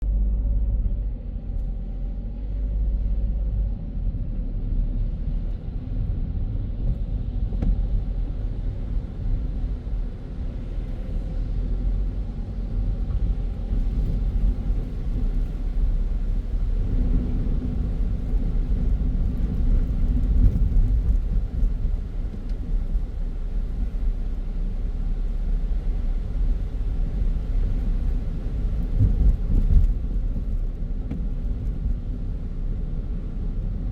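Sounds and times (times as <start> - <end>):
car engine and tyres on road: 0.0 - 33.9.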